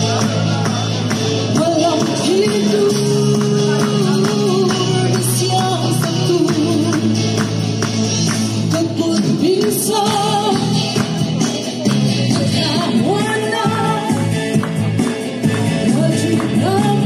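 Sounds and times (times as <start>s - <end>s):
hand-clapping: 0.0s - 13.0s, 14.1s - 17.0s.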